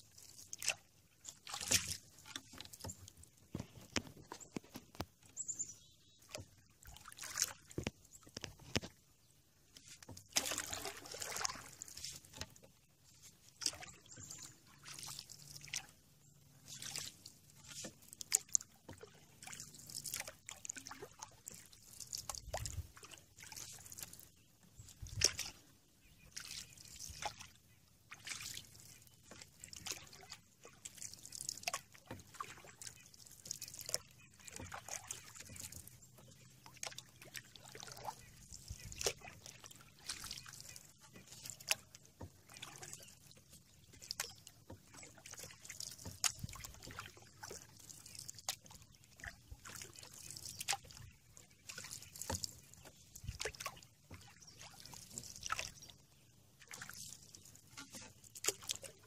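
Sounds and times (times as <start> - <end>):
paddle swishing through water: 0.0 - 59.0.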